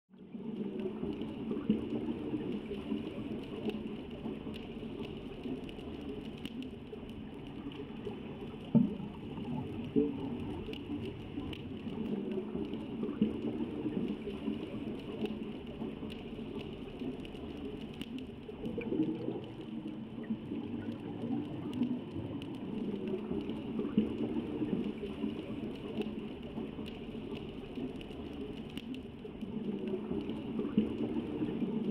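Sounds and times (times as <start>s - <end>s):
low underwater rumble: 0.1s - 31.9s
faint clicks: 0.3s - 31.9s.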